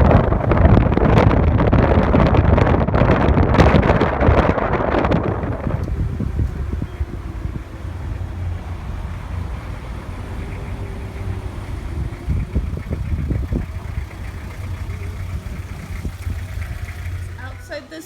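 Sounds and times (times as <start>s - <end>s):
car engine and road rumble: 0.0s - 18.0s
low thumps: 0.0s - 18.0s.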